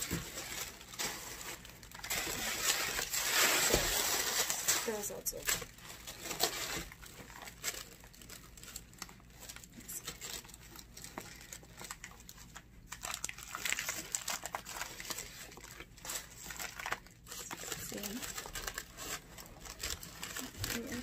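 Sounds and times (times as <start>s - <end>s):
tissue paper crinkling: 0.0s - 21.0s.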